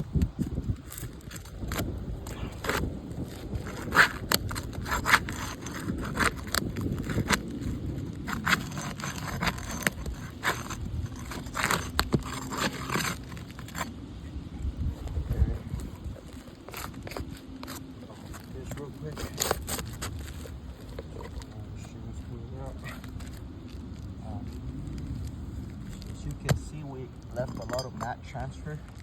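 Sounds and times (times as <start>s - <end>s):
roof shingle tearing loose: 0.0s - 14.3s, 15.0s - 29.0s.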